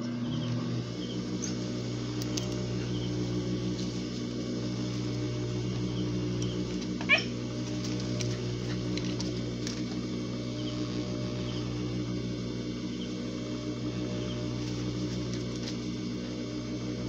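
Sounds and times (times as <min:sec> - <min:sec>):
sewing machine motor hum: 0:00.0 - 0:17.0.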